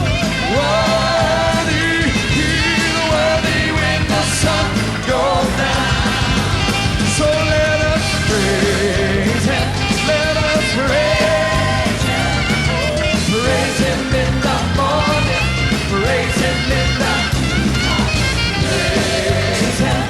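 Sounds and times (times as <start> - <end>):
gospel band with piano: 0.0 - 20.0
voices singing: 0.0 - 20.0.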